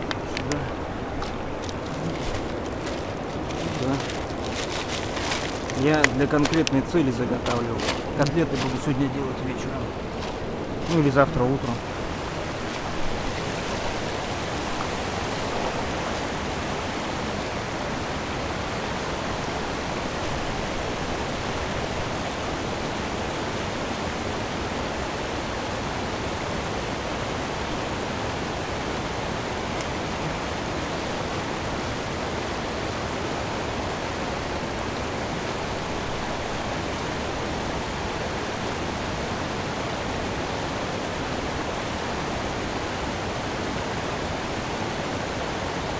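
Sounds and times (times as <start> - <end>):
river rushing over pebbles: 0.0 - 45.9.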